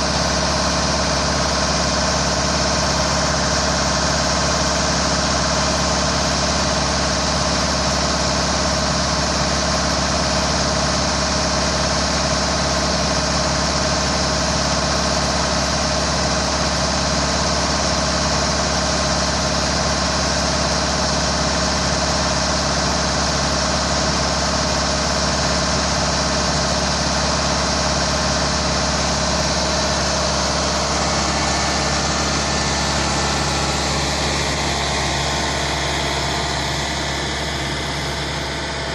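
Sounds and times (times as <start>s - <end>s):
hydraulic winch engine drone: 0.0s - 38.9s.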